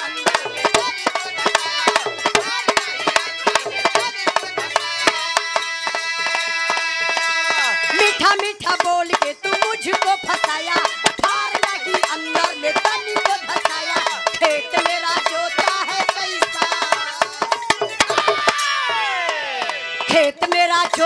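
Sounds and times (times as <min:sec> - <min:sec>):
woman singing into a microphone: 0:00.0 - 0:06.3, 0:07.9 - 0:18.6, 0:20.1 - 0:21.0.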